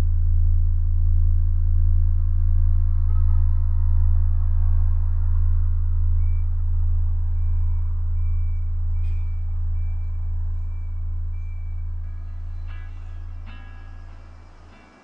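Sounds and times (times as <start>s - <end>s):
deep low drone: 0.0s - 15.0s.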